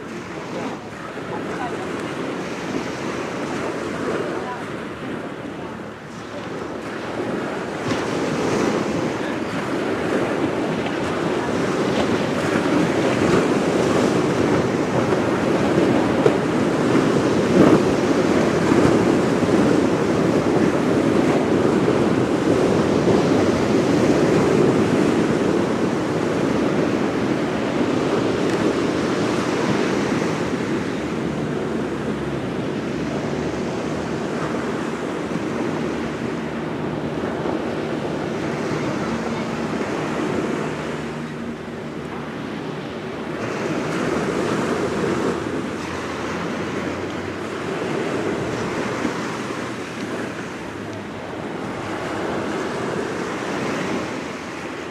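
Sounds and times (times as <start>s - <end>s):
waves washing onto shore: 0.0s - 54.9s
wind on microphone: 0.0s - 54.9s.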